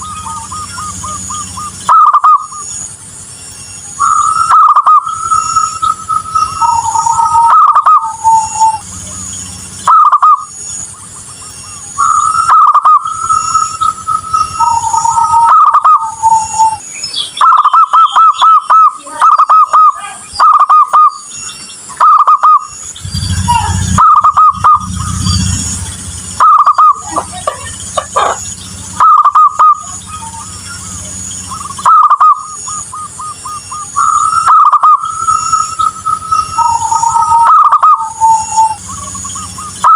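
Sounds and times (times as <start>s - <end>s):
dove cooing: 0.0s - 2.7s, 4.0s - 16.8s, 17.4s - 21.2s, 22.0s - 39.9s.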